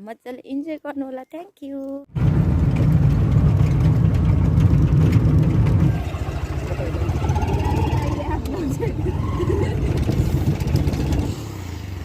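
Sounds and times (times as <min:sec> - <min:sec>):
vehicle engine rumbling: 0:02.1 - 0:12.0.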